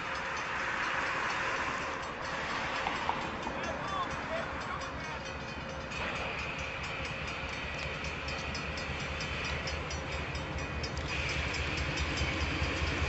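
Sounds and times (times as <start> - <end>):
train engine and wheels rumbling: 0.0 - 13.0.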